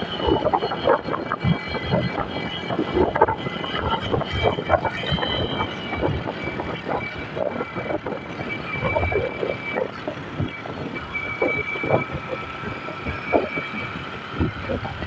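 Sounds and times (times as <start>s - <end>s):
high-pitched whine: 0.0s - 15.0s
vehicle engine and road noise: 0.0s - 15.0s
wind gusts: 0.0s - 15.0s.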